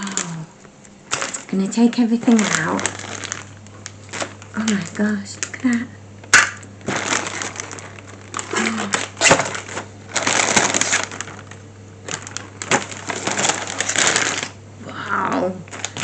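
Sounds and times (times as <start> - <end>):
packaging rustling and crinkling: 0.0 - 14.6, 15.6 - 16.0.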